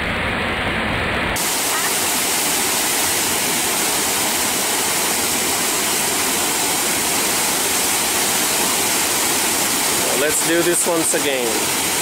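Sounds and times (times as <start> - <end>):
waterfall splashing over rock: 1.4 - 12.0.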